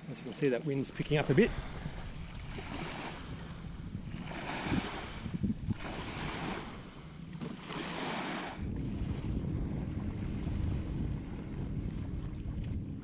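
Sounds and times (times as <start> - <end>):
waves washing on sandy shore: 0.0 - 13.0
wind buffeting microphone: 0.8 - 13.0.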